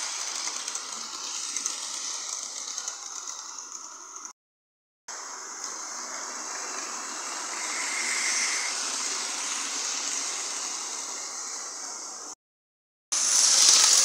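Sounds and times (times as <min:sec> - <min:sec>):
model train running on track: 0:00.0 - 0:04.4, 0:05.1 - 0:12.4, 0:13.2 - 0:14.0.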